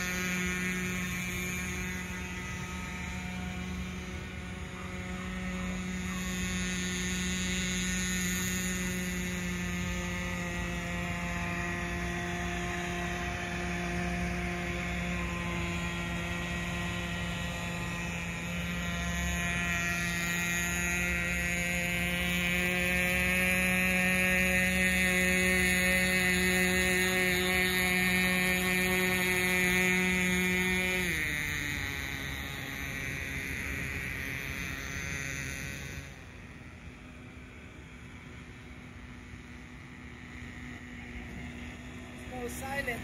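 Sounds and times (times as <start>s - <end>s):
model boat engine high-pitched drone: 0.0s - 43.0s.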